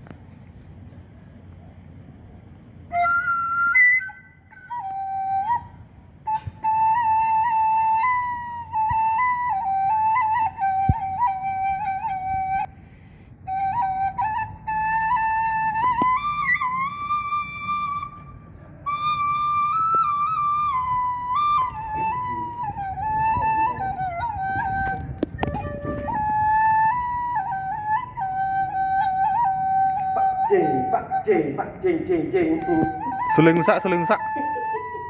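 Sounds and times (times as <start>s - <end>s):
bamboo flute melody: 2.8s - 35.0s.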